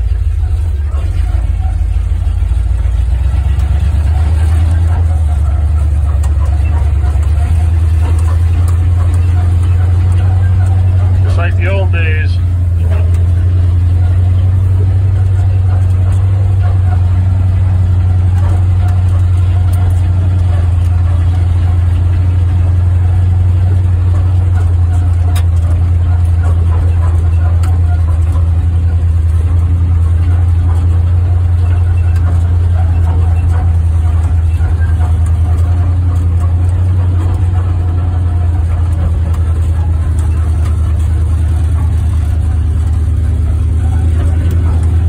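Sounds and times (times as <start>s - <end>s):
truck engine running at low revs: 0.0s - 45.0s.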